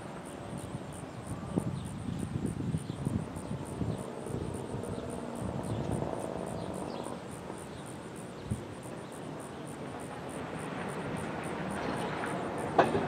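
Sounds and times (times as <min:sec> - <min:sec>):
low wind-like rumble: 0:00.0 - 0:13.0.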